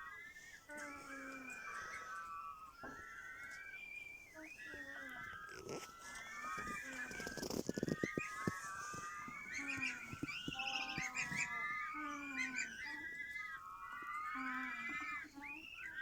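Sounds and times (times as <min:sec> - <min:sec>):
goslings peeping: 0:00.0 - 0:16.0
goslings snoring: 0:00.0 - 0:16.0.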